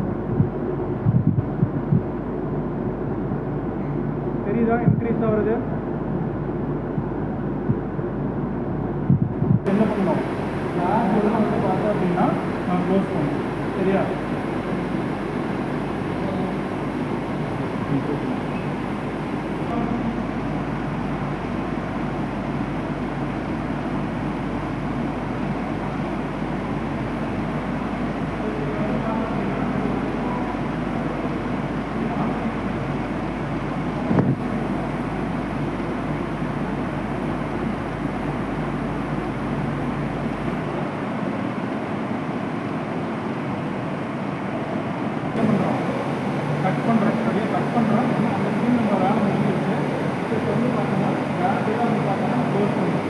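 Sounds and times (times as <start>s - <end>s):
low steady hum: 0.0s - 53.0s
loud machinery noise: 9.6s - 53.0s.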